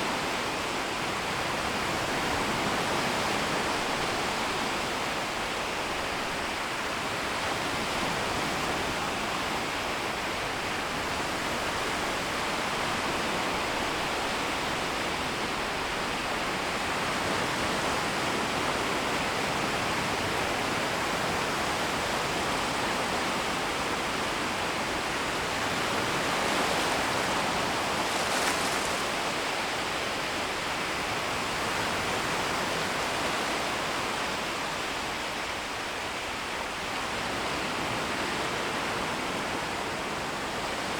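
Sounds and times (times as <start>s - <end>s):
small waves washing on shore: 0.0s - 40.9s.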